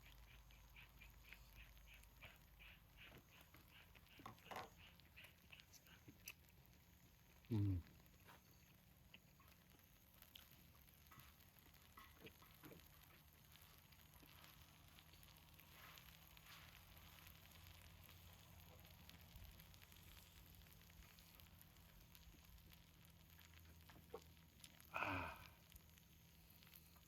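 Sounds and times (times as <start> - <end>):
pancake sizzling in oil: 0.0 - 27.0.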